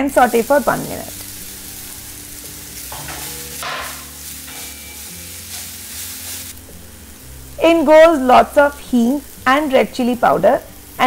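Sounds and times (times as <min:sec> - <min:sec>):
leaves sizzling in hot fat: 0:00.0 - 0:11.0.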